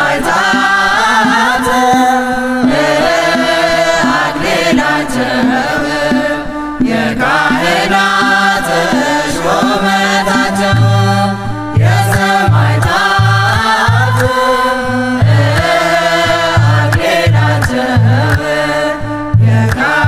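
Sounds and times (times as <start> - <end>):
hymn chanted: 0.0 - 20.0
low repeating accompaniment: 0.0 - 20.0.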